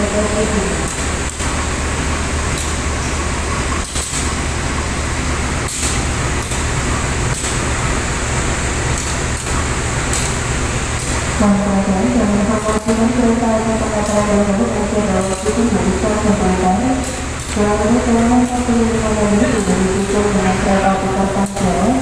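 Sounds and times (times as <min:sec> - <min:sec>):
diesel train idling: 0:00.0 - 0:22.0.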